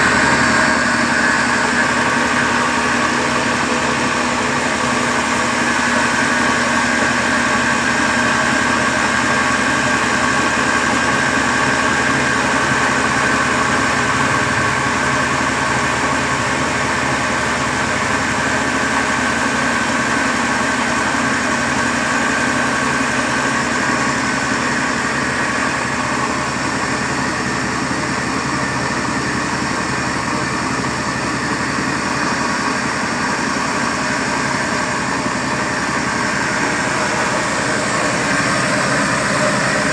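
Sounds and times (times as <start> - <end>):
flour mill droning: 0.0 - 39.9.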